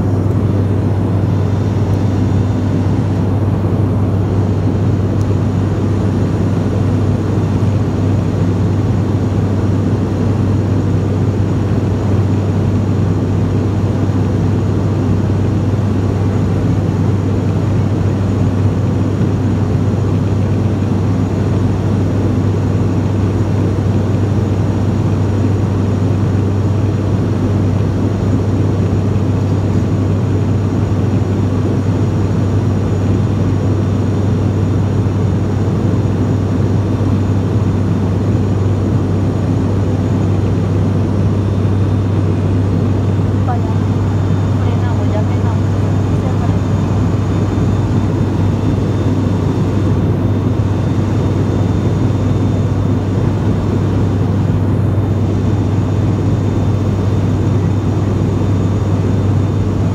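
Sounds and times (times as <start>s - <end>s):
propeller plane cabin drone: 0.0s - 59.9s.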